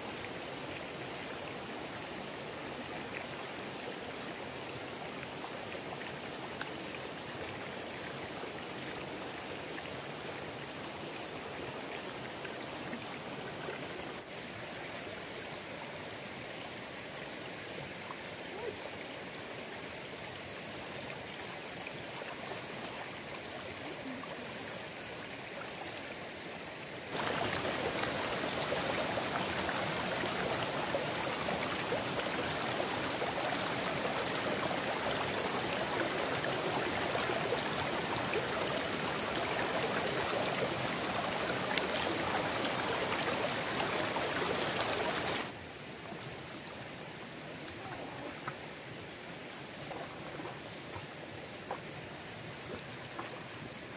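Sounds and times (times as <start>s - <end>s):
stream water over rocks: 0.0s - 53.9s.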